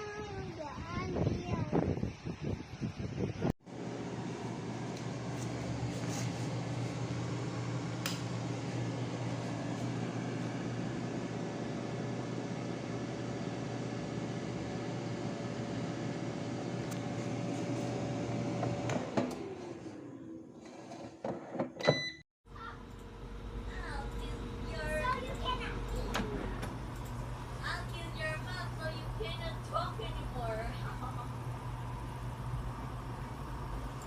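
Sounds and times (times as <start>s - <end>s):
air fryer fan hum: 2.0s - 20.5s, 21.8s - 34.0s.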